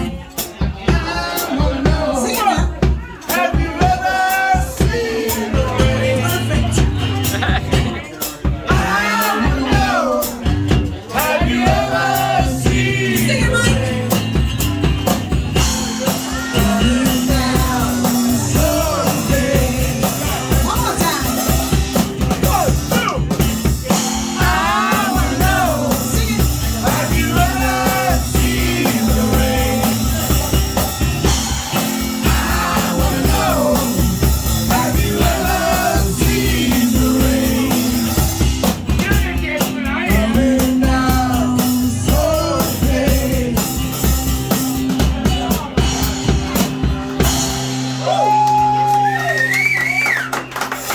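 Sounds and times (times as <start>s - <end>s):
rock song with singing: 0.0s - 50.4s
bass: 0.0s - 50.9s
drum kit beat: 0.0s - 50.9s.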